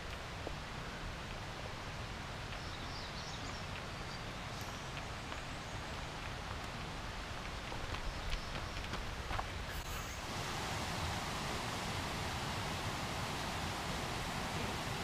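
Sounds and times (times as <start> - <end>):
steady hiss with low rumble: 0.0 - 15.0.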